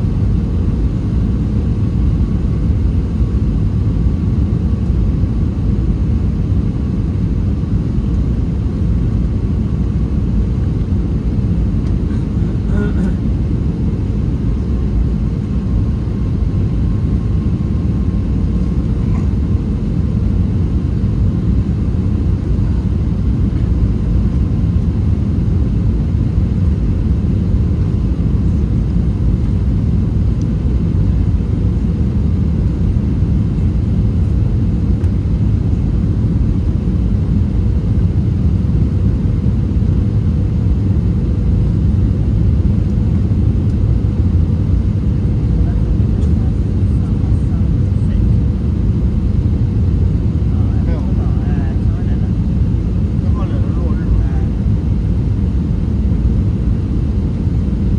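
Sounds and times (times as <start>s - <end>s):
airplane cabin engine rumble: 0.0s - 57.9s
faint steady hum: 0.0s - 57.9s.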